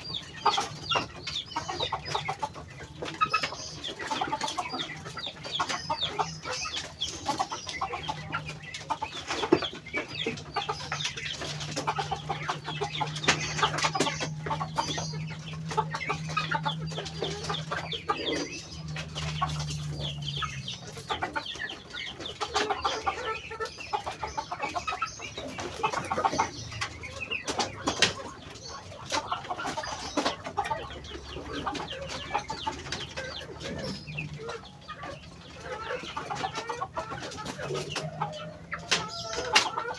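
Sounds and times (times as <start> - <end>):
duck bills clicking and pecking: 0.0 - 38.2
ducks clucking softly: 0.0 - 39.9.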